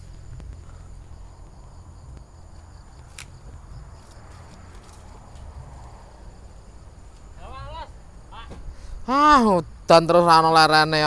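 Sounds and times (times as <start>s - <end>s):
low uneven rumble: 0.0s - 9.9s
insects chirping: 0.0s - 11.0s.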